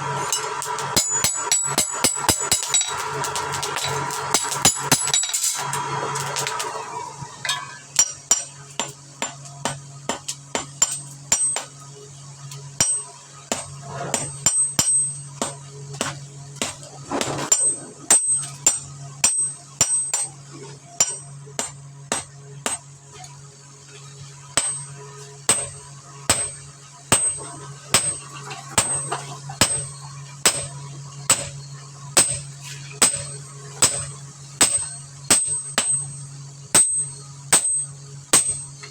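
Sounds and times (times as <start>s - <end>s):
steady low hum: 0.0s - 38.9s
hammer striking steel on anvil: 0.3s - 6.8s, 7.4s - 11.8s, 12.8s - 20.4s, 21.0s - 22.9s, 24.6s - 31.6s, 32.2s - 38.9s.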